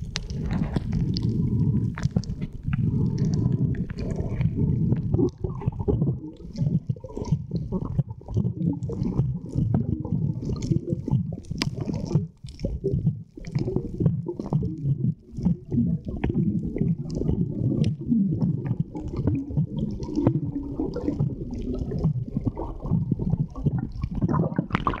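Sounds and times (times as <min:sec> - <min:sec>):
bubbles gurgling: 0:00.0 - 0:25.0
low rumbling underwater noise: 0:00.0 - 0:25.0
small clicks underwater: 0:00.0 - 0:25.0.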